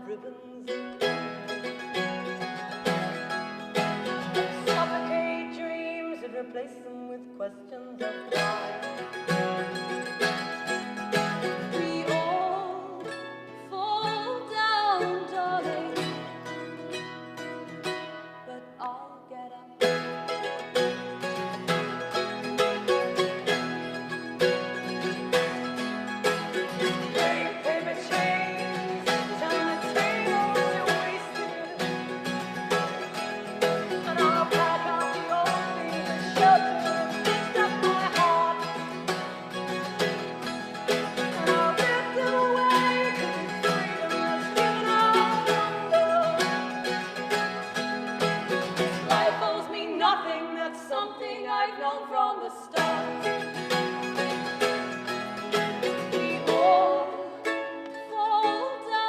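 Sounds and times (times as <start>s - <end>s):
person singing: 0.0s - 16.4s, 18.4s - 59.0s
acoustic guitar strumming: 0.8s - 6.4s, 8.0s - 18.5s, 19.8s - 50.1s, 52.8s - 57.9s.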